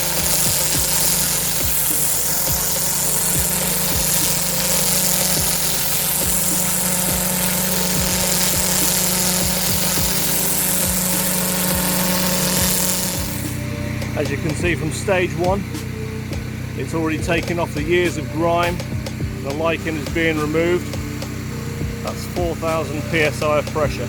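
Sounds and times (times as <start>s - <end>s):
pressure washer engine running: 0.0s - 24.0s
water jet hissing on paving: 0.0s - 24.0s.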